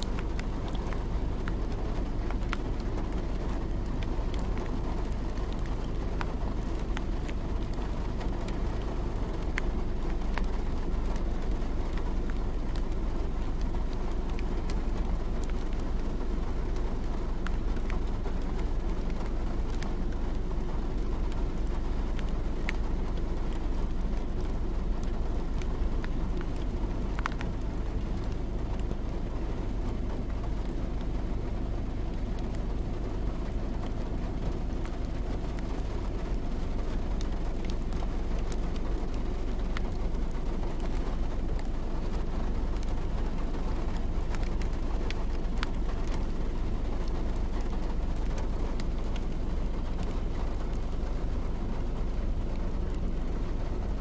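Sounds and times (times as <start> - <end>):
car road and engine rumble: 0.0 - 54.0
faint ticks: 0.0 - 54.0.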